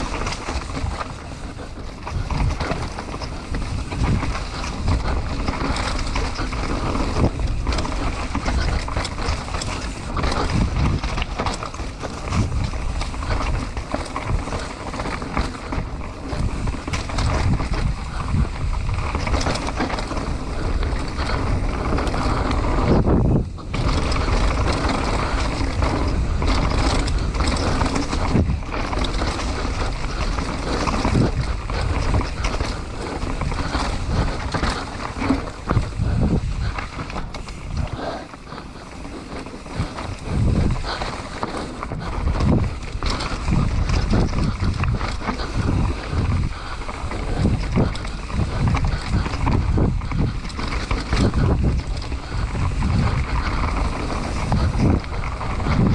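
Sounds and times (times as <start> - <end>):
bike knocking and rattling: 0.0 - 55.9
bike tyre noise: 0.0 - 55.9
wind buffeting microphone: 0.0 - 55.9.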